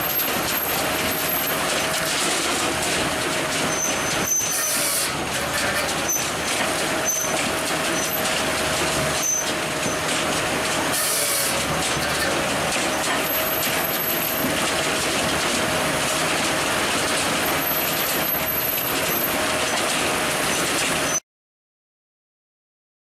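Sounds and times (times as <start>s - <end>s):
constant mechanical whine: 0.0s - 21.2s
firewood machinery running: 0.0s - 21.2s.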